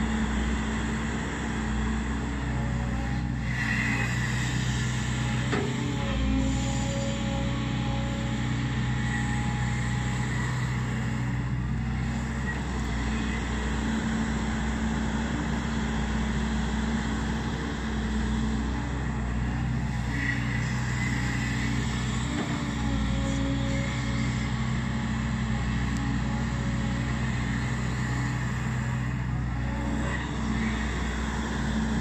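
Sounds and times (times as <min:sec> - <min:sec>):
diesel engine running steadily: 0:00.0 - 0:32.0.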